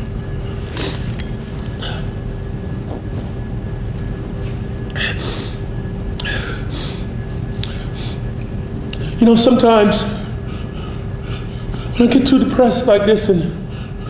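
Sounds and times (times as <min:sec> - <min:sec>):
faint constant hum: 0:00.0 - 0:14.0
low room rumble: 0:00.0 - 0:14.0.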